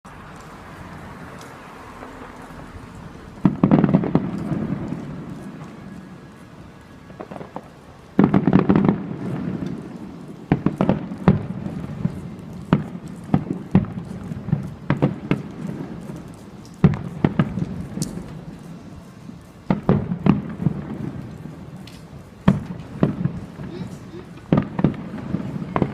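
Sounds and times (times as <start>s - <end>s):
fireworks bangs and crackles: 0.1s - 25.9s
fireworks booms: 1.8s - 6.4s, 7.0s - 25.9s.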